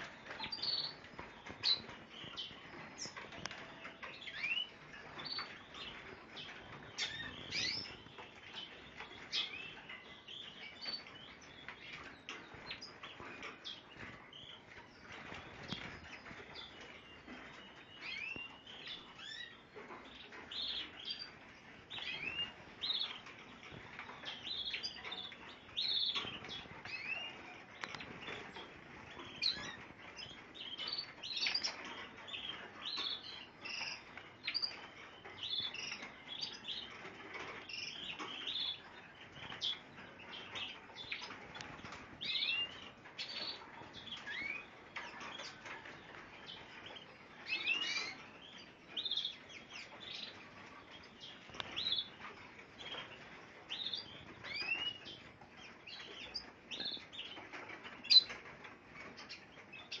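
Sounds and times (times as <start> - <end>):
finches and canaries chirping: 0.0 - 60.0.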